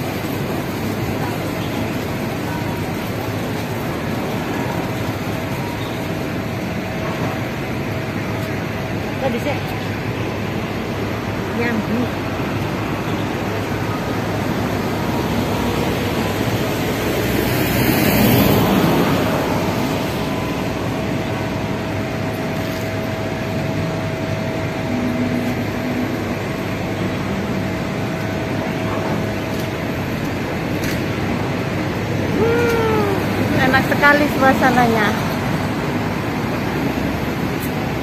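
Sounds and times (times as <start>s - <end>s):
faint engine hum: 0.0s - 38.0s
road traffic noise: 0.0s - 38.0s.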